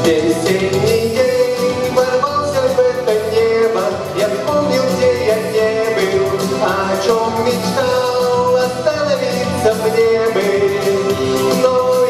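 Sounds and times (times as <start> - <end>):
man singing: 0.0 - 12.0
pop song instrumental accompaniment: 0.0 - 12.0.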